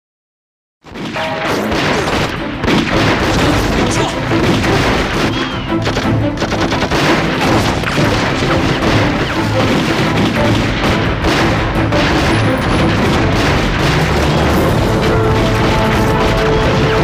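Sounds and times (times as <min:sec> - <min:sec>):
explosions: 0:00.8 - 0:17.0
rapid gunfire: 0:00.9 - 0:17.0
dramatic music: 0:01.0 - 0:17.0.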